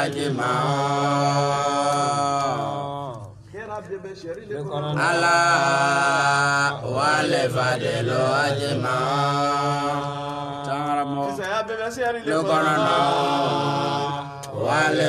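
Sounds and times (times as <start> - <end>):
man chanting devotional verses: 0.0 - 15.0.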